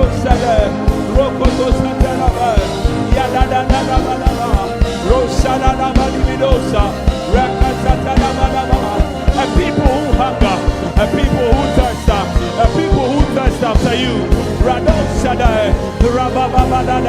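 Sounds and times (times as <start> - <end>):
drum beat: 0.0 - 17.0
person singing: 0.0 - 17.0.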